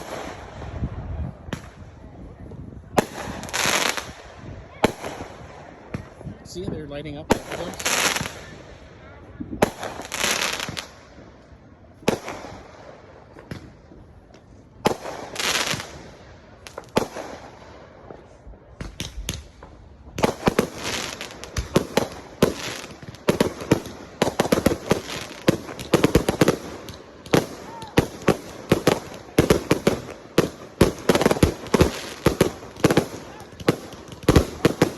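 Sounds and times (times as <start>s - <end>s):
rapid fireworks pops: 0.0s - 8.9s, 9.5s - 34.9s
fireworks bangs: 0.0s - 34.9s
fireworks crackling: 0.0s - 34.9s.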